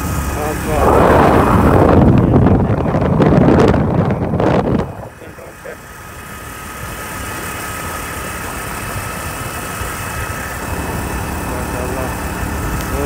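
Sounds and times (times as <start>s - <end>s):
motorcycle engine riding: 0.0s - 13.0s.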